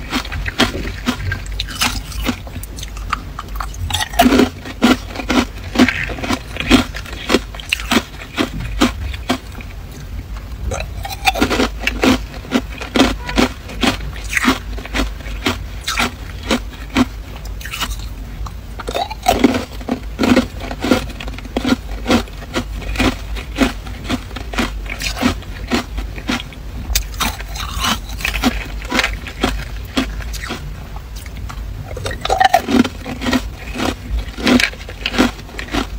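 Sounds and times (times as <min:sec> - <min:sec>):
ice being chewed: 0:00.0 - 0:35.9.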